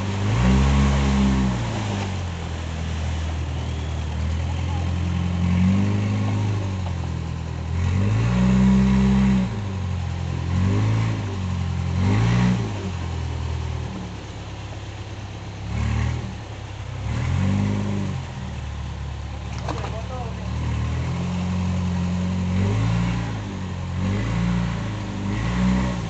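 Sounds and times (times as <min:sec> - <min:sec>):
motorboat engine revving: 0:00.0 - 0:26.0.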